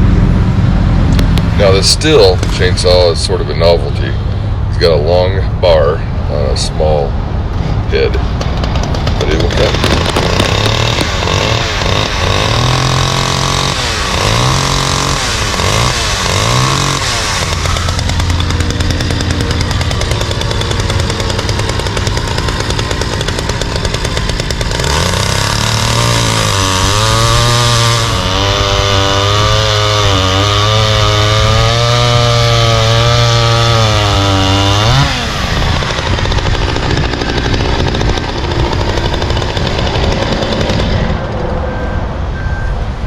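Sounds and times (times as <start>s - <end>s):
chainsaw cutting log: 1.2s - 4.0s, 7.9s - 41.2s.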